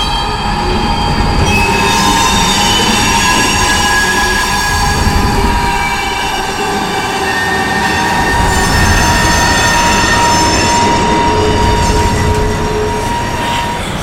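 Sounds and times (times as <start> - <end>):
loud continuous rumble: 0.0 - 14.0
metallic squeals: 0.0 - 14.0.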